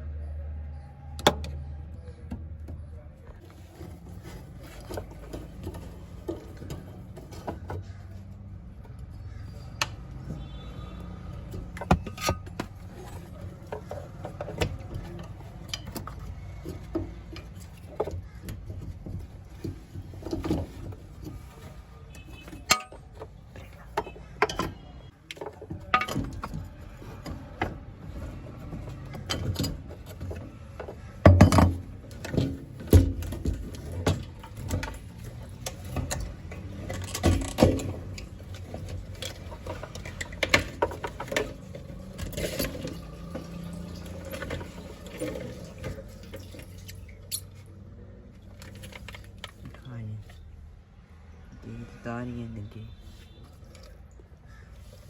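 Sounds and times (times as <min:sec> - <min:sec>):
metal tools clinking on car parts: 0:03.5 - 0:50.5.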